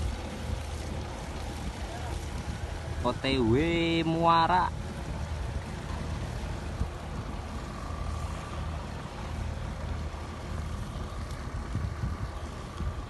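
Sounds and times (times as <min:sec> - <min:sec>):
boat engine droning: 0:00.0 - 0:13.0
wind and water hiss: 0:00.0 - 0:13.0.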